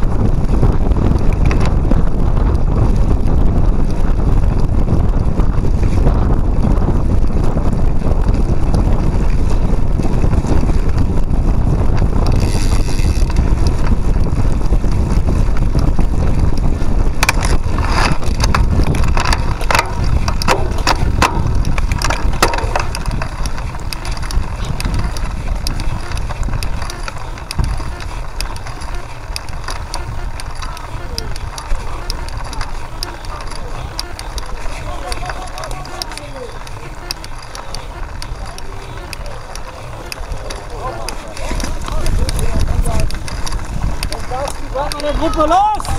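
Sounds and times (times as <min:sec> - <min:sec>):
bike rattling over bumps: 0:00.0 - 0:45.9
tyres rumbling on rough ground: 0:00.0 - 0:45.9
wind buffeting microphone: 0:00.0 - 0:45.9.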